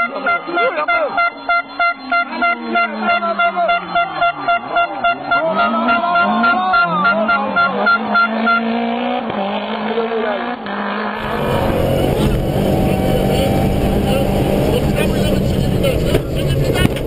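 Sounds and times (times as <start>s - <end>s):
rally car engine revving: 1.4s - 17.0s.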